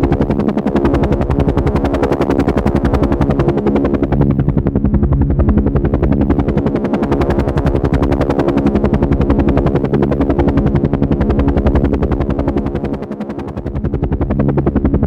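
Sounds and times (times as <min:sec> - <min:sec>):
helicopter engine hum: 0:00.0 - 0:15.0
helicopter rotor blades chopping: 0:00.0 - 0:15.0.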